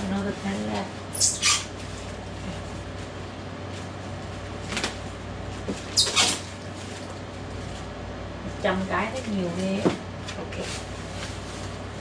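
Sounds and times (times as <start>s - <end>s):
plastic bags rustling: 0.0s - 12.0s
steady low hum: 0.0s - 12.0s.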